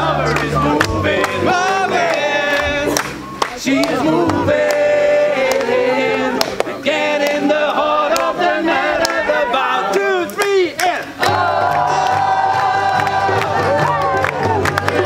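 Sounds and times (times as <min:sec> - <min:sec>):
crowd singing and calling out: 0:00.0 - 0:15.0.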